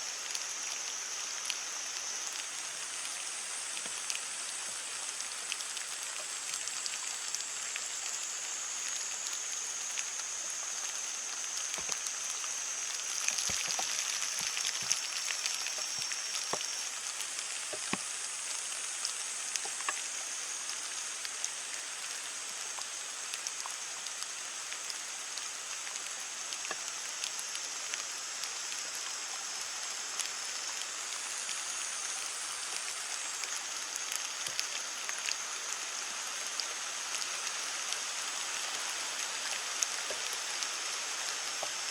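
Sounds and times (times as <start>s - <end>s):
heavy rain on leaves: 0.0s - 41.9s.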